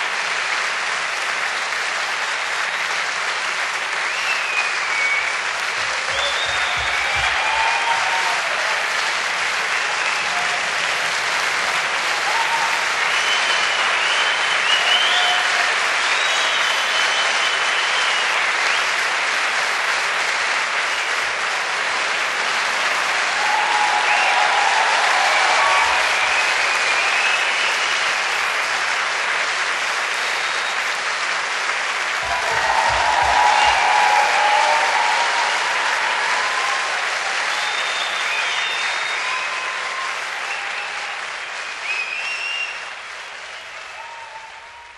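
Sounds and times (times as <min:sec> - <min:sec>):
audience applauding: 0:00.0 - 0:44.9
audience cheering: 0:00.0 - 0:44.9.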